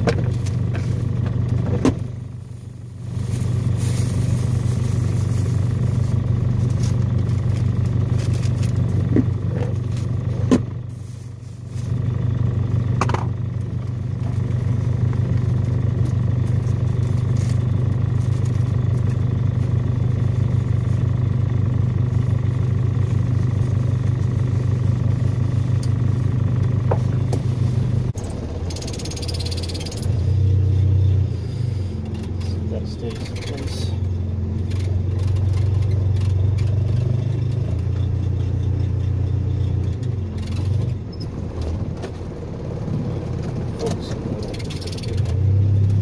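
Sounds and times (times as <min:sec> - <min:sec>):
pickup engine idling: 0:00.0 - 0:46.0.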